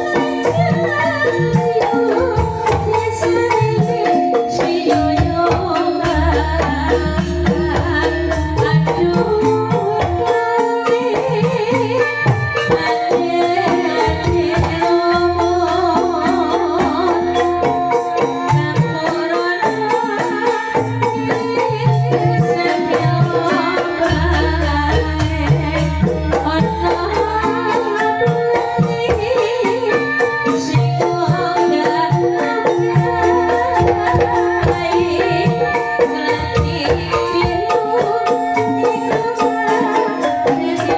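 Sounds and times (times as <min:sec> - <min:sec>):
bamboo xylophones melody: 0:00.0 - 0:40.9
hand drum rhythm: 0:00.0 - 0:40.9
person singing: 0:00.0 - 0:40.9.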